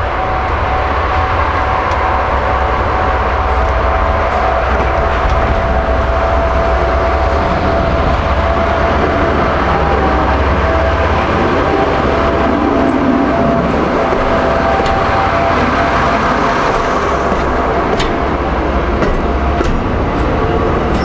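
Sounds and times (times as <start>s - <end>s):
diesel engine rumble: 0.0s - 21.0s
steady whine: 0.0s - 21.0s.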